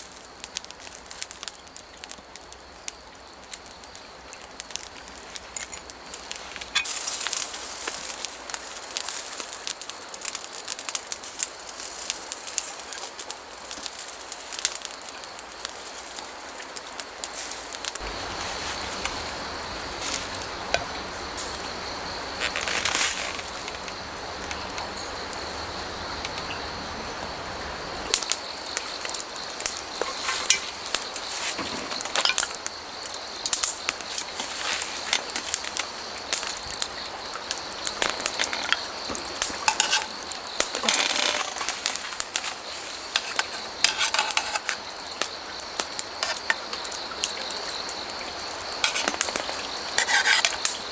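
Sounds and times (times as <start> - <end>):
campfire crackling and popping: 0.0 - 27.3, 27.9 - 50.9
fire hiss: 0.0 - 50.9.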